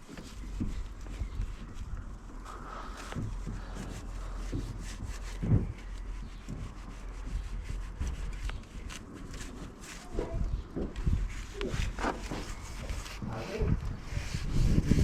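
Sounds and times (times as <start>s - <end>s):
brush scrubbing wet frame: 0.0s - 15.0s.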